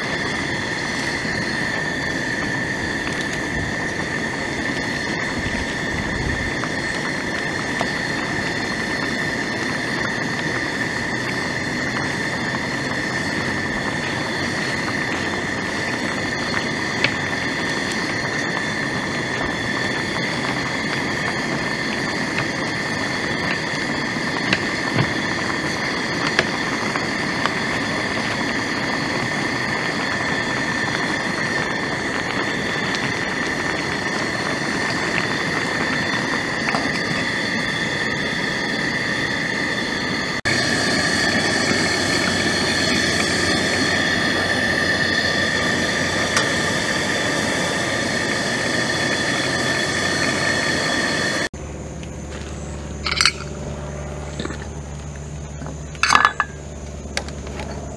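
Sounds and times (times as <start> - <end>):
stew bubbling: 0.0 - 51.5, 53.0 - 56.7
high-pitched drone: 0.0 - 57.8
gas burner hissing: 0.0 - 57.9.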